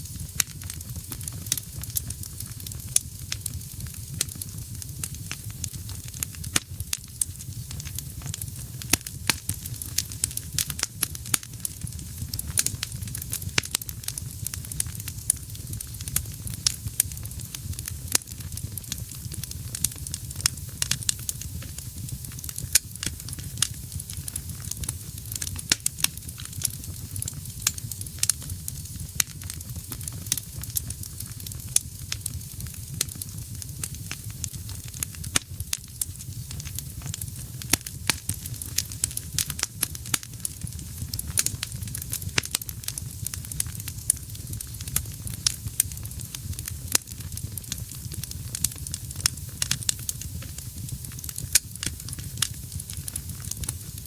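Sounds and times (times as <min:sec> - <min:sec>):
fire hissing: 0:00.0 - 0:54.0
logs crackling and popping: 0:00.0 - 0:54.0
low rumble of flame: 0:00.0 - 0:54.0.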